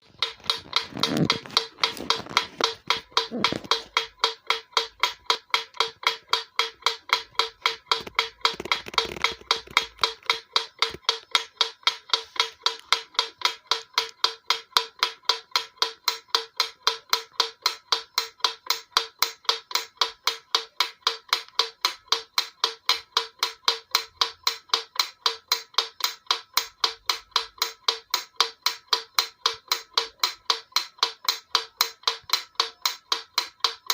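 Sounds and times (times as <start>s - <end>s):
metronome ticking: 0.0s - 33.9s.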